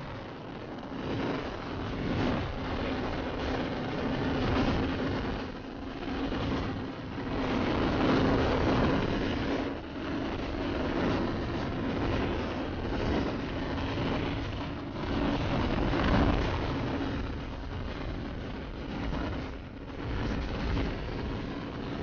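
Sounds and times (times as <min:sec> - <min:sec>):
wind rush over microphone: 0:00.0 - 0:22.0.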